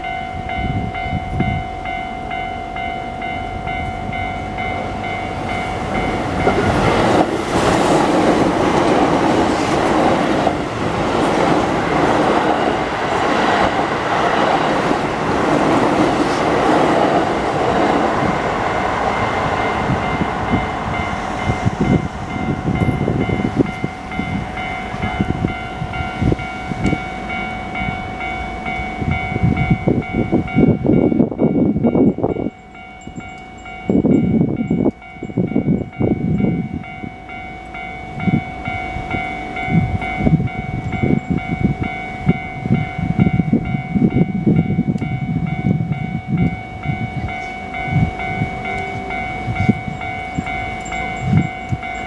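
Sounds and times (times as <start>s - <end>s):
crossing warning bell clanging: 0.0s - 52.0s
electric train passing: 0.0s - 52.0s.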